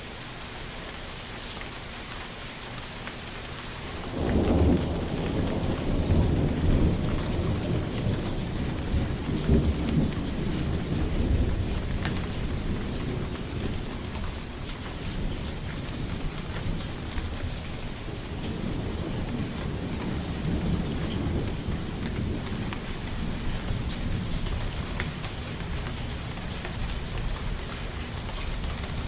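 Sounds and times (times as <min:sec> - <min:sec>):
rainfall hiss: 0:00.0 - 0:29.0
thunder rumbling: 0:03.8 - 0:29.0.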